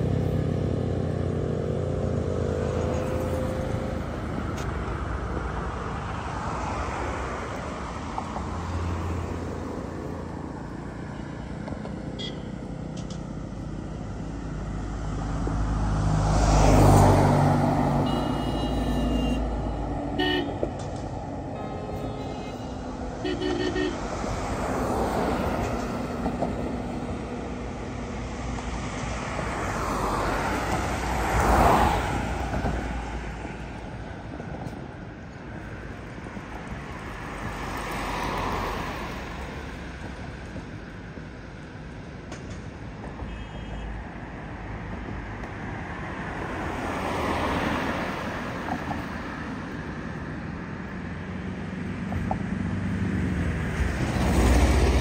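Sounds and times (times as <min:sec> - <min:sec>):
vehicles passing: 0:00.0 - 0:55.0.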